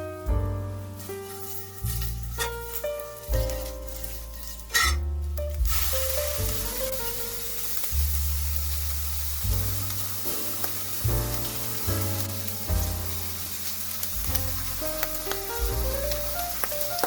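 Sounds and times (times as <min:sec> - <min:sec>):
background music with bass line: 0:00.0 - 0:17.0
food sizzling in a pan: 0:00.8 - 0:17.0.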